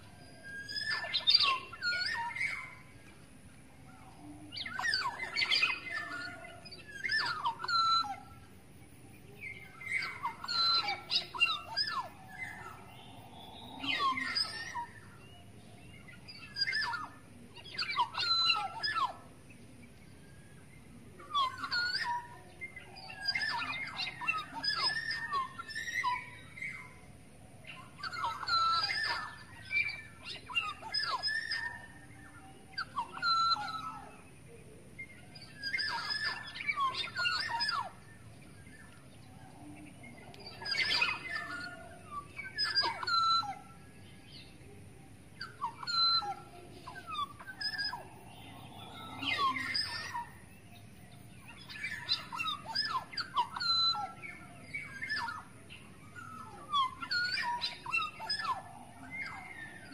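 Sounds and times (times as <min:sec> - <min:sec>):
oriole fluty whistling calls: 0:00.0 - 0:59.9.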